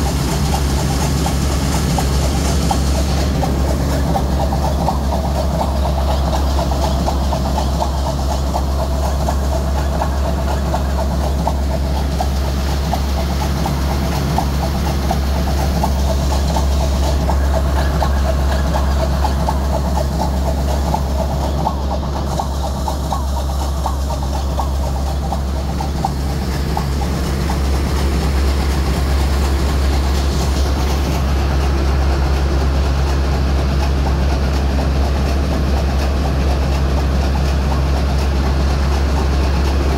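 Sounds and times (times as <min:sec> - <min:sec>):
diesel machinery deep hum: 0:00.0 - 0:39.9
fast ticking clatter: 0:00.0 - 0:39.9.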